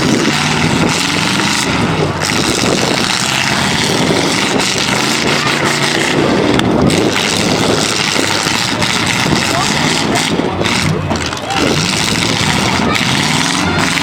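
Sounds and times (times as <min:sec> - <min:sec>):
truck engines running loudly: 0:00.0 - 0:14.0.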